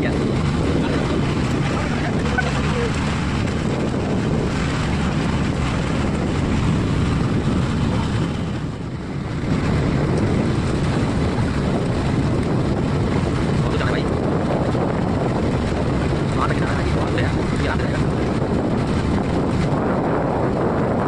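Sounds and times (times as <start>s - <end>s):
boat engine running: 0.0s - 21.0s
wind rushing over microphone: 0.0s - 21.0s.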